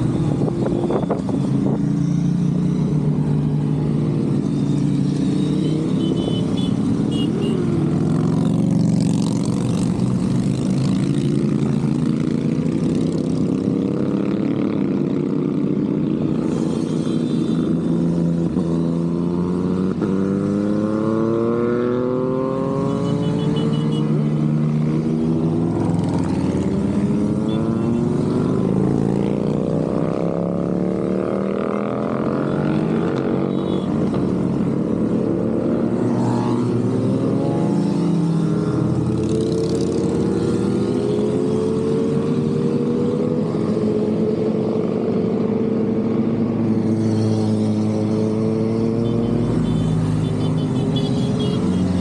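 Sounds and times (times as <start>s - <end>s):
motorcycles riding past: 0.0s - 52.0s.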